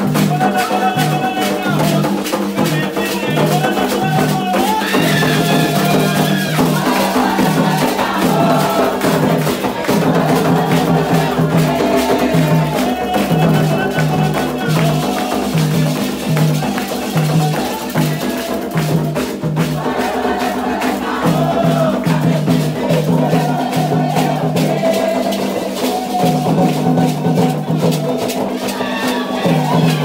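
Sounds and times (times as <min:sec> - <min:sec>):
rattles and percussion: 0:00.0 - 0:30.0
voices singing: 0:00.0 - 0:30.0.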